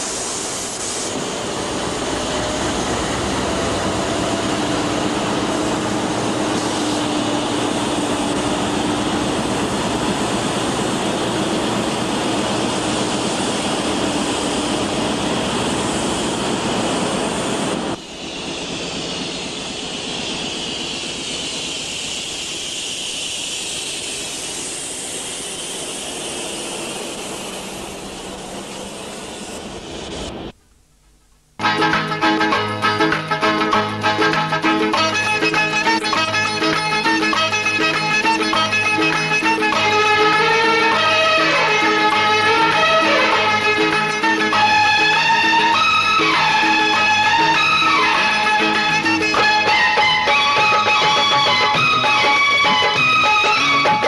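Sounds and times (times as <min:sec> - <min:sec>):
diesel locomotive rumble: 0:00.0 - 0:30.6, 0:32.1 - 0:54.0.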